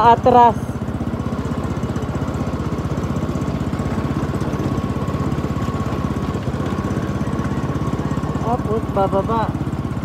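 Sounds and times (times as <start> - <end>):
small engine chugging: 0.0 - 10.0.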